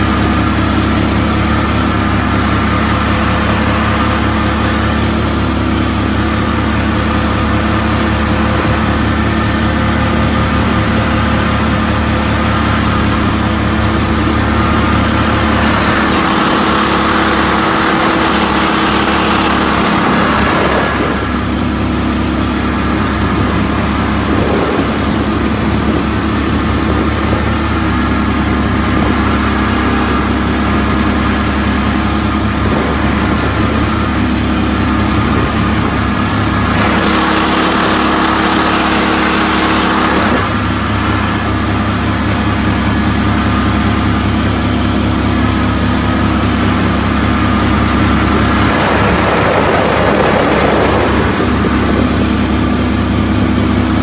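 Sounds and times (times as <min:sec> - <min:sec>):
small boat engine running: 0:00.0 - 0:54.0.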